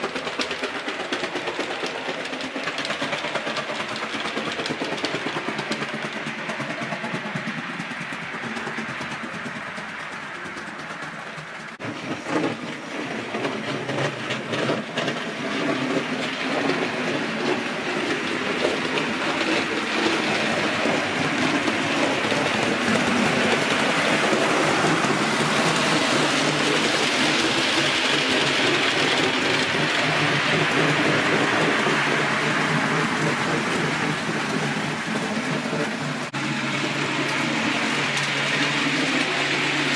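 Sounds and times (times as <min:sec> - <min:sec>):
clicks over rail joints: 0:00.0 - 0:39.9
model train wheels rumbling on rail: 0:00.0 - 0:39.9.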